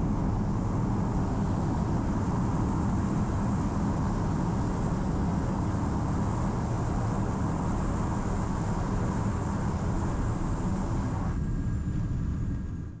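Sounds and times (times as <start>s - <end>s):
small plane cabin engine drone: 0.0s - 13.0s.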